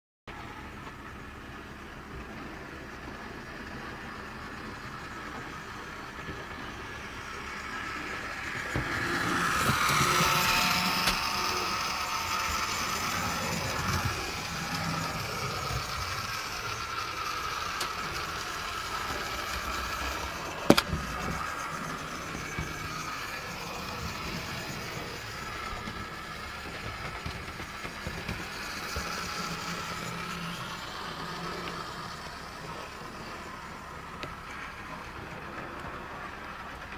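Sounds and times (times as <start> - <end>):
model train motor whining: 1.4 - 36.9.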